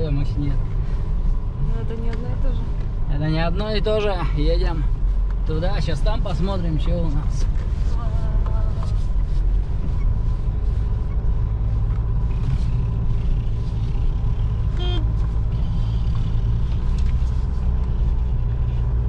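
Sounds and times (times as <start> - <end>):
diesel engine low rumble: 0.0 - 19.0.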